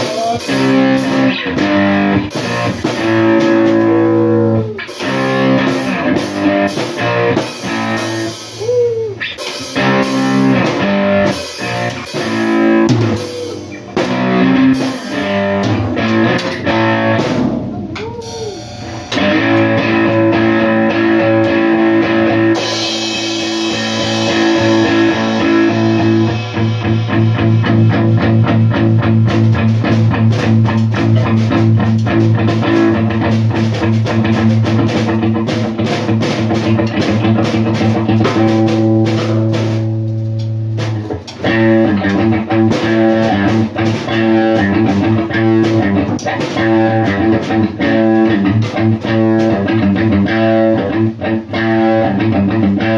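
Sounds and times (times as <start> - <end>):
drum kit with cymbals: 0.0 - 52.9
electric guitar: 0.0 - 52.9.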